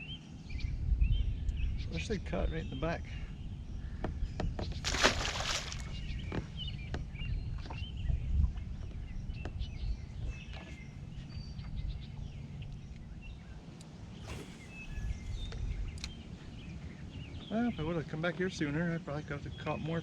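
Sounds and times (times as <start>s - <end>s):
wind rumbling on microphone: 0.0s - 19.7s
birds chirping: 0.0s - 20.0s.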